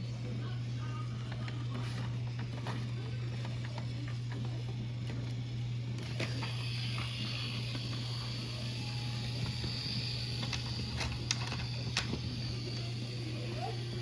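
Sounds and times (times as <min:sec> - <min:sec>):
toy train motor hum: 0:00.0 - 0:14.0.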